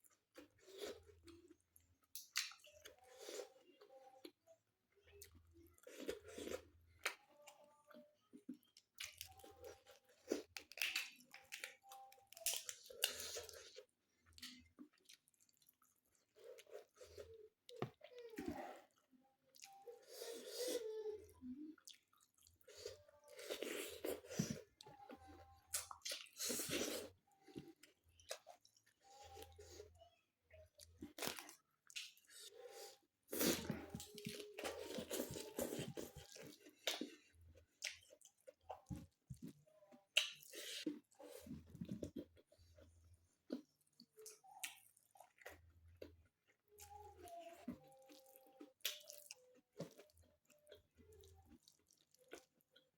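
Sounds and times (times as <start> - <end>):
person chewing and crunching food: 0.0 - 18.3, 18.9 - 52.9.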